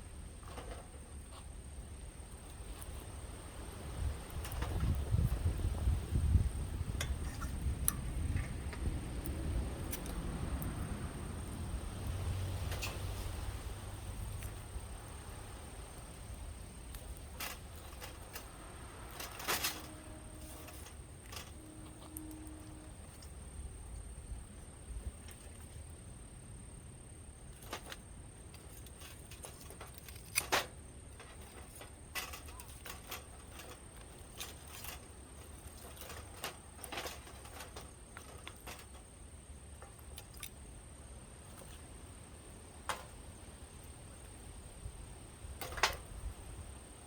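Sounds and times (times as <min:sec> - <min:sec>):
wood bonfire crackling: 0:00.0 - 0:47.0.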